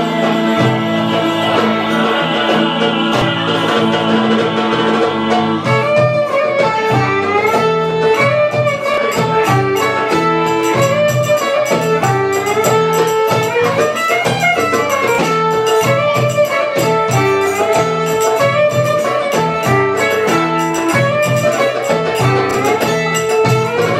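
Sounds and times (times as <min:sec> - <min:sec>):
bass guitar: 0:00.0 - 0:23.9
percussion beat: 0:00.0 - 0:23.9
plucked string instrument: 0:00.0 - 0:23.9
violin melody: 0:00.0 - 0:23.9.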